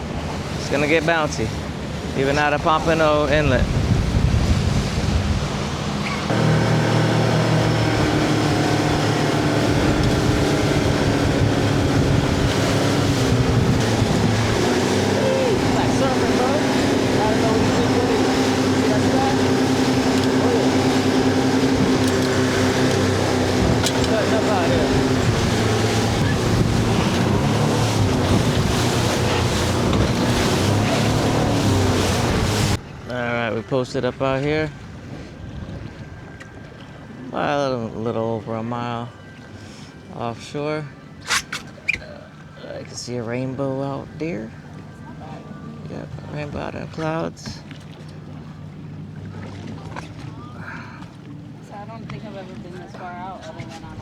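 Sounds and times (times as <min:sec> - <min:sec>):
boat engine drone: 0:00.0 - 0:54.0
water noise: 0:00.0 - 0:54.0
wind: 0:00.0 - 0:54.0.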